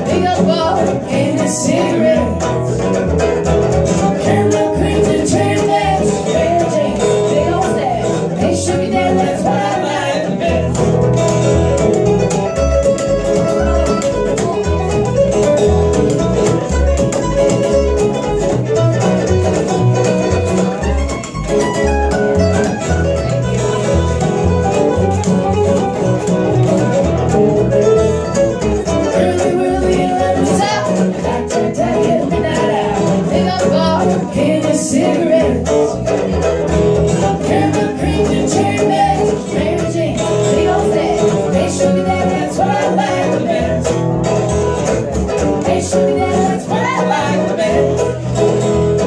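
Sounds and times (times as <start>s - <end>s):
strummed acoustic guitar: 0.0s - 49.0s.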